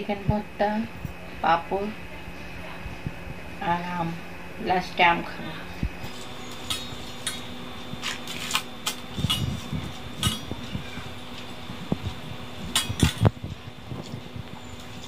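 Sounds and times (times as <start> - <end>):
fan humming: 0.0 - 15.0.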